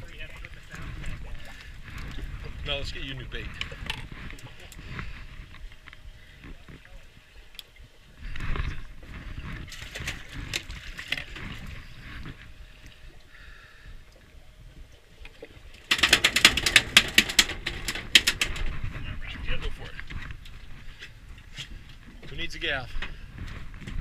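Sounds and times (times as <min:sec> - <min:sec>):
boat and handling noise: 0:00.0 - 0:24.0.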